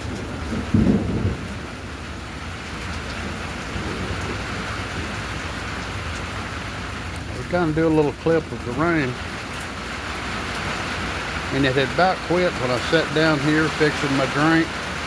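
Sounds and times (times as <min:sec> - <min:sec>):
steady rain hissing: 0:00.0 - 0:15.0.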